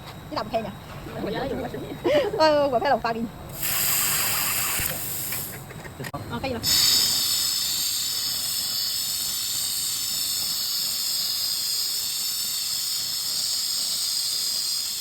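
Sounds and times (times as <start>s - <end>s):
shielding gas hissing: 2.0s - 5.8s, 6.6s - 15.0s.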